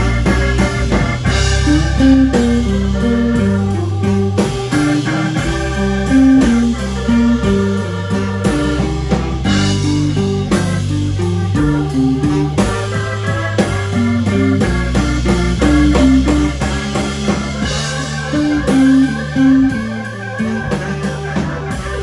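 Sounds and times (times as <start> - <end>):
bass guitar: 0.0 - 22.0
drum beat: 0.0 - 22.0
electric guitar lead: 0.0 - 22.0.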